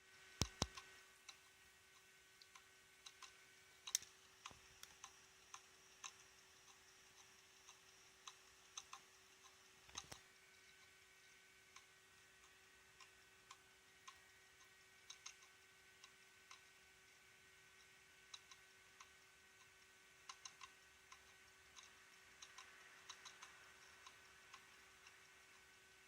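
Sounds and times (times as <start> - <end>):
faint steady hum: 0.0 - 26.0
hard disk drive clicking: 0.0 - 26.0.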